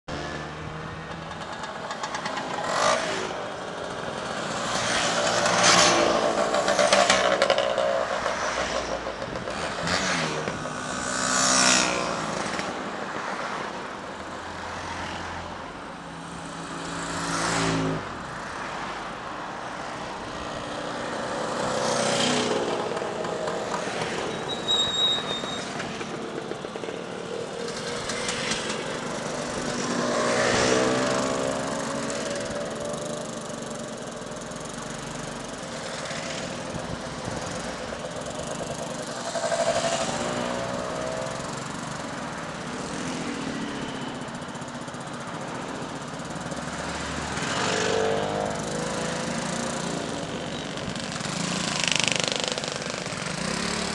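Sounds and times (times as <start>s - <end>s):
scooters riding past: 0.1s - 53.9s
vans and cars passing: 0.1s - 53.9s.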